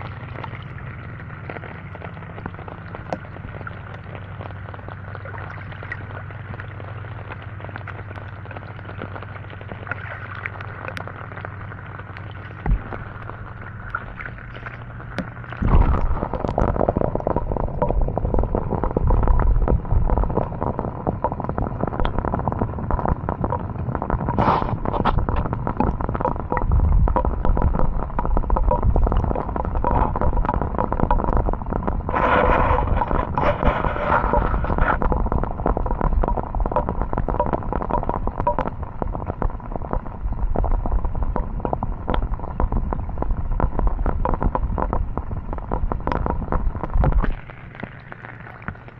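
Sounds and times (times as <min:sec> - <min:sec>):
low rumble: 0:00.0 - 0:48.9
rain crackling on microphone: 0:00.0 - 0:48.9.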